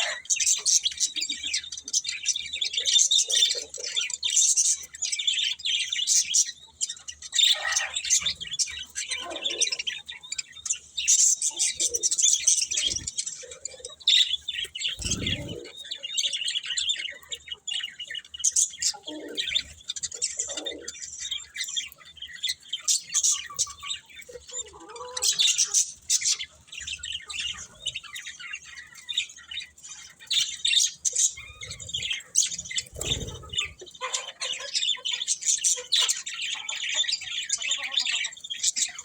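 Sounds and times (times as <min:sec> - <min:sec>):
budgerigars chirping: 0:00.0 - 0:39.0.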